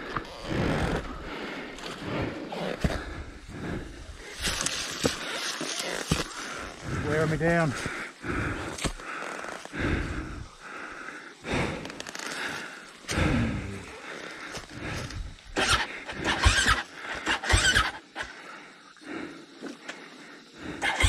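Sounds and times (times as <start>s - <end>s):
person breathing hard and straining: 0.0s - 21.0s.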